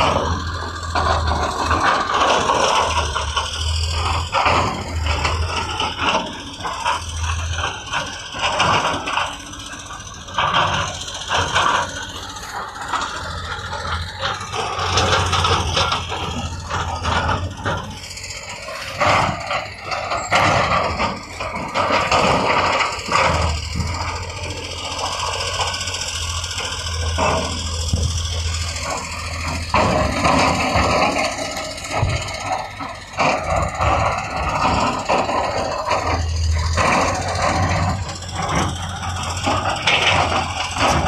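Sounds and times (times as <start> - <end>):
low engine hum: 0.0 - 41.0
machinery rattling and scraping: 0.0 - 41.0.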